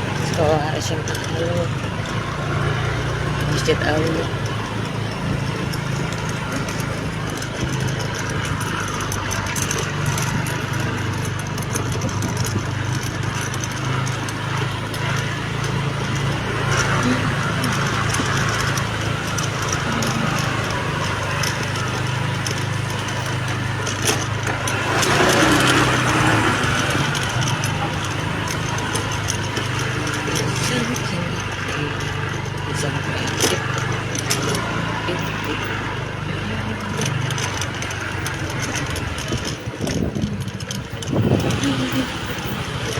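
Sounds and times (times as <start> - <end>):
road and wind noise: 0.0 - 42.9
vehicle engine running: 0.0 - 42.9.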